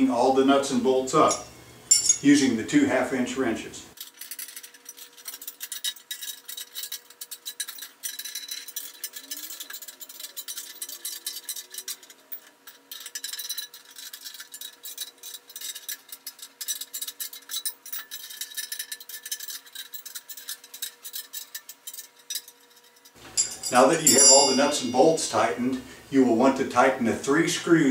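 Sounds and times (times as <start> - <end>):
wrenches clicking and clinking: 1.2 - 2.5, 3.9 - 25.8.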